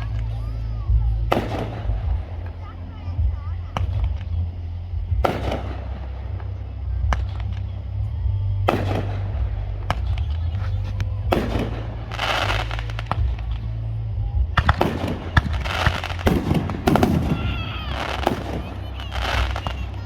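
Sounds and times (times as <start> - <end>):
fireworks crackling pops: 0.0 - 3.0, 3.7 - 20.0
fireworks bangs: 0.0 - 20.0.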